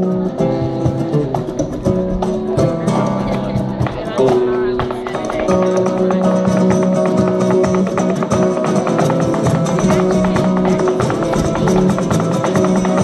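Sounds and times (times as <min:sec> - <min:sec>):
guitars strumming and picking: 0:00.0 - 0:13.0.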